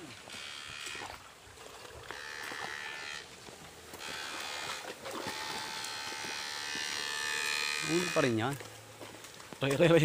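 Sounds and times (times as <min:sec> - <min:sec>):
electric fishing shocker buzzing: 0:00.0 - 0:08.8.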